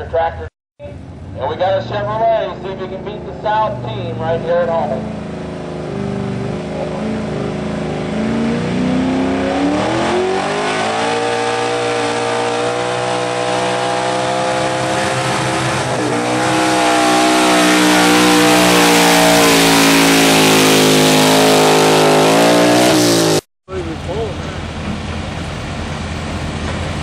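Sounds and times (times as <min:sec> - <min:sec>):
truck engine revving under load: 0:01.0 - 0:27.0.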